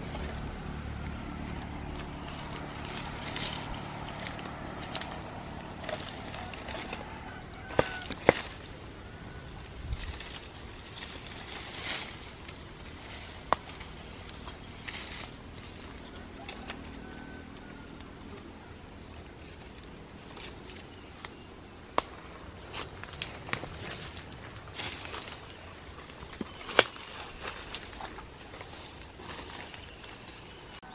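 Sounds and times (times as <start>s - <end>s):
insects trilling: 0.0s - 30.9s
leaves rustling: 0.0s - 30.9s.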